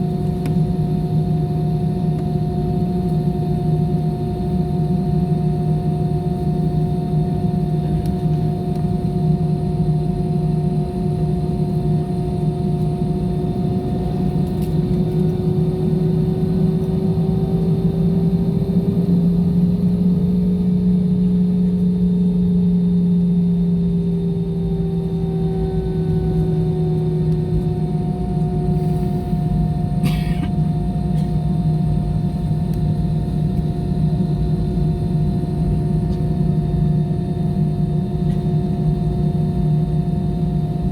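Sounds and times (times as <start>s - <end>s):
airliner engines droning: 0.0s - 40.9s.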